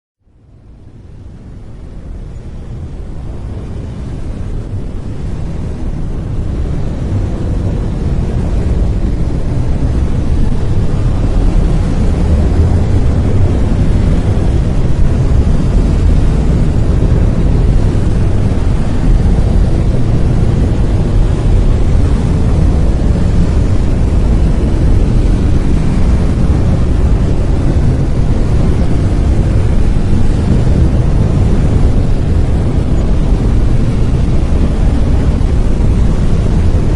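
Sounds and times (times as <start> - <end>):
brown noise: 0.2 - 36.9.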